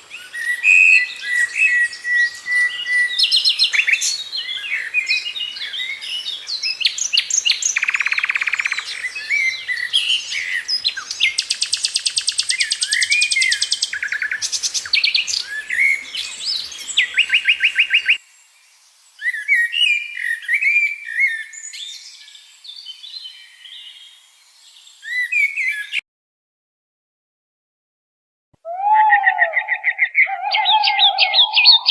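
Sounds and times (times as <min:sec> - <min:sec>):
background noise: 0:00.0 - 0:26.0, 0:28.6 - 0:31.9
small birds chirping and whistling: 0:00.1 - 0:18.2, 0:19.2 - 0:26.0, 0:28.7 - 0:31.9.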